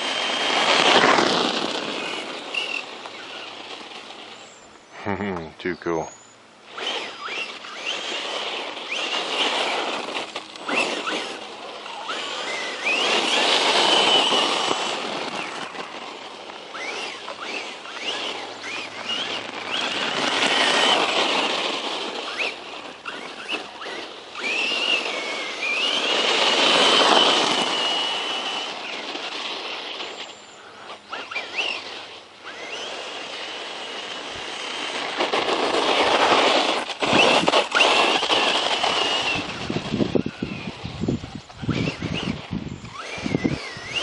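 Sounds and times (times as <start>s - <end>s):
electric motor whining: 0.0s - 44.0s.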